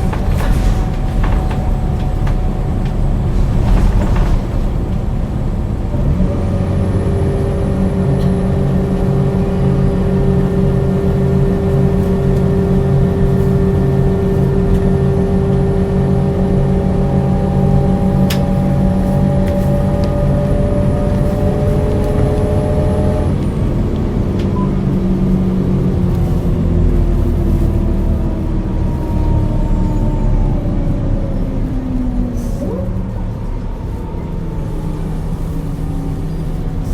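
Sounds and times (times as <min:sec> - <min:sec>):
bus diesel engine running: 0:00.0 - 0:36.9.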